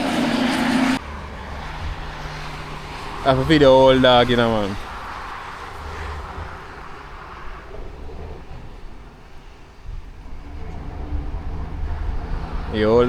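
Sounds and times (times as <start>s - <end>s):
road noise: 0.0s - 13.0s
truck diesel engine rumble: 0.0s - 13.0s.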